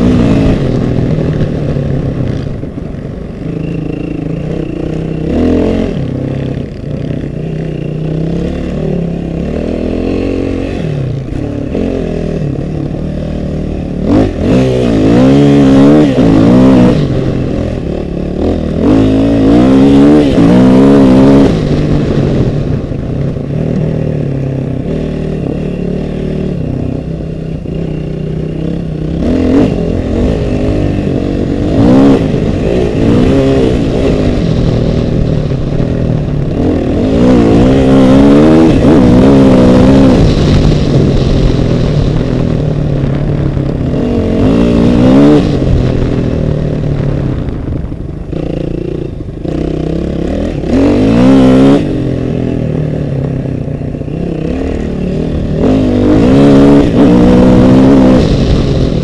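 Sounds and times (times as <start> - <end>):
off-road vehicle engine revving: 3.6 - 46.7, 48.3 - 59.0.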